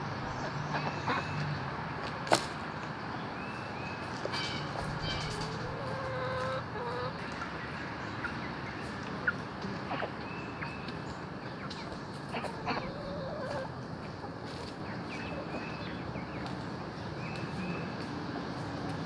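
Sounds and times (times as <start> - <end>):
chickens clucking: 0.2 - 1.6, 3.5 - 18.1.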